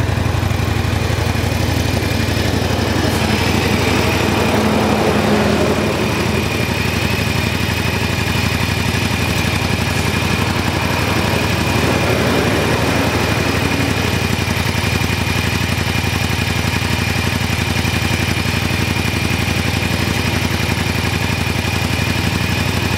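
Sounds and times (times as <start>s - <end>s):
motorcycle engine idling: 0.0s - 22.9s.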